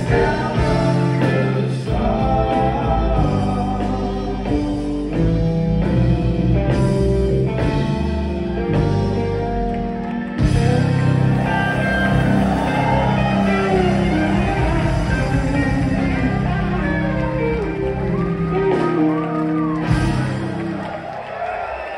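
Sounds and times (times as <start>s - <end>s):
live rock band playing: 0.0s - 21.9s.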